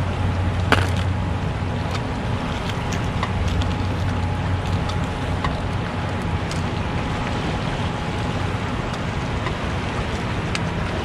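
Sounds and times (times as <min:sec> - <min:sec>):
water rushing below a dam: 0:00.0 - 0:11.0.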